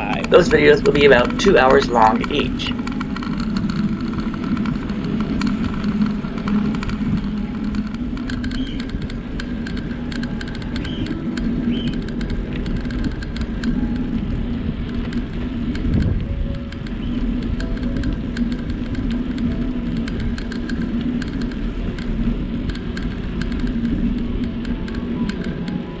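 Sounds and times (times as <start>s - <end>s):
bicycle tyre and wind noise: 0.0s - 26.0s
small clicks and rattles: 0.2s - 26.0s.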